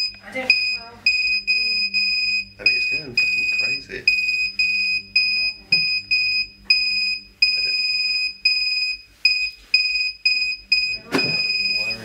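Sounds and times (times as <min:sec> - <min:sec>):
high electronic alarm beeps: 0:00.0 - 0:12.0.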